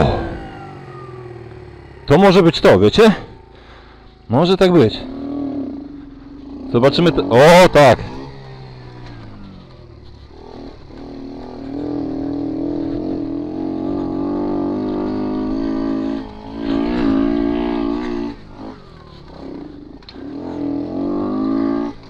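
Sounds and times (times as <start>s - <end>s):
moped engine under throttle: 0.0s - 22.0s.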